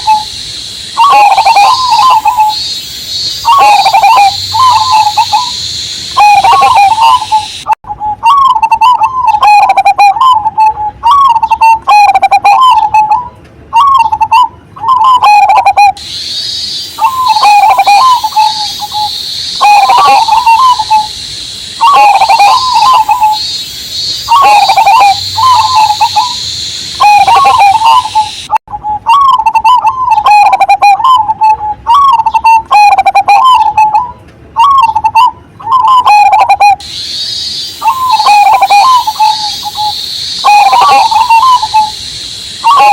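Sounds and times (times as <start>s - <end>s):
cicada droning: 0.0s - 42.9s
dove cooing: 0.0s - 42.9s.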